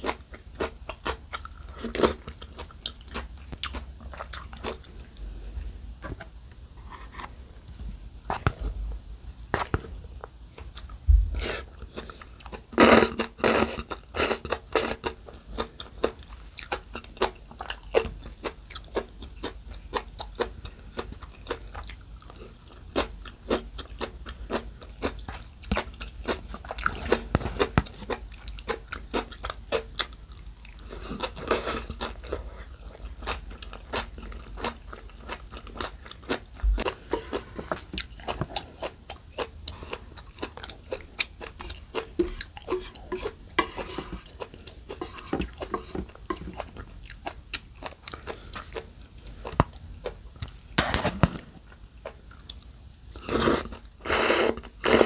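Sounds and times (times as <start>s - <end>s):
chewing and crunching noodles: 0.0s - 5.5s, 7.3s - 55.0s.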